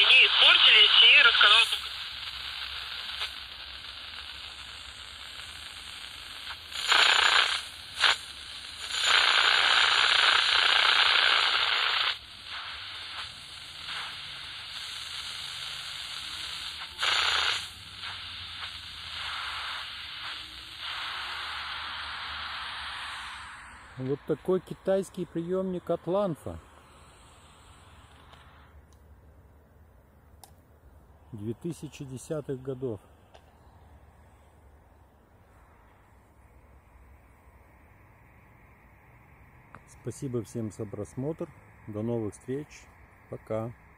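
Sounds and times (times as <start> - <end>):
radio static hiss: 0.0 - 29.4, 30.9 - 43.9.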